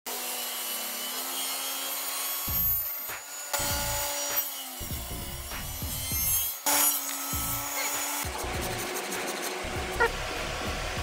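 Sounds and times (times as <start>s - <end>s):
table saw cutting wood: 0.1s - 11.0s.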